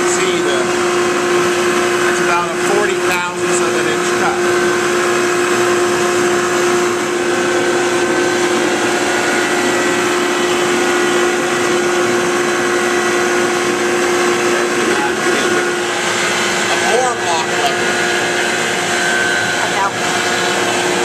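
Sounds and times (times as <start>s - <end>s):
machine whining: 0.0s - 21.0s.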